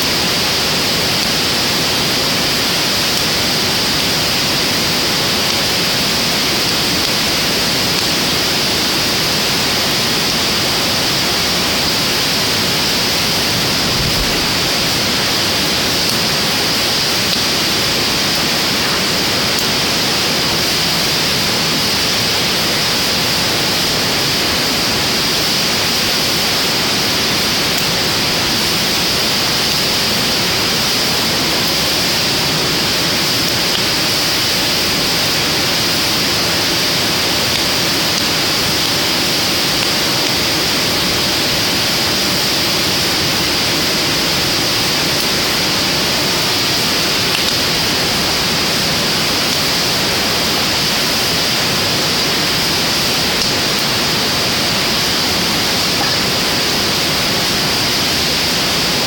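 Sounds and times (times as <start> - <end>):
wood fire crackling: 0.0 - 21.3, 23.5 - 57.8
loud rushing hiss: 0.0 - 59.0.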